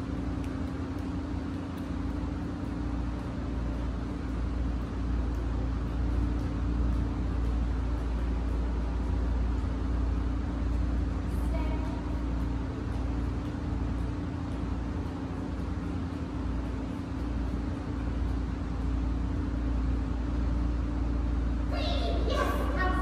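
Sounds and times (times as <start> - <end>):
ventilation machinery hum: 0.0 - 23.0.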